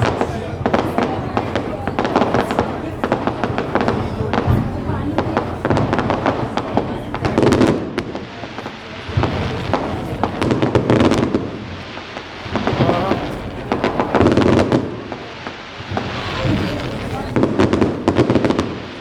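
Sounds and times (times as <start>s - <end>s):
fireworks booms: 0.0s - 19.0s
fireworks crackling pops: 0.0s - 19.0s.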